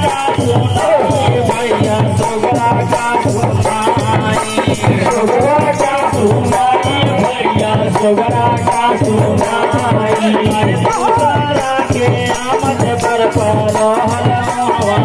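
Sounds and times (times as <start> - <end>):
men singing into microphones: 0.0 - 15.0
percussion beat: 0.0 - 15.0.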